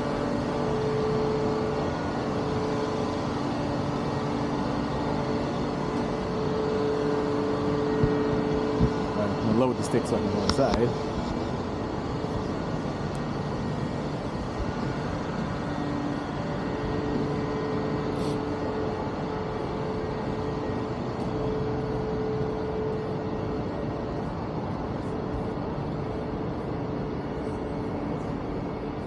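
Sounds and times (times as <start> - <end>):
city traffic rumble: 0.0 - 29.0
faint steady hum: 0.0 - 29.0.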